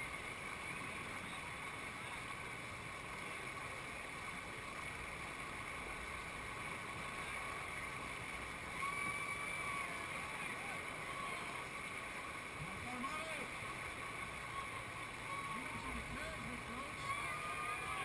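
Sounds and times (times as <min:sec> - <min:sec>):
whitewater rushing: 0:00.0 - 0:18.0.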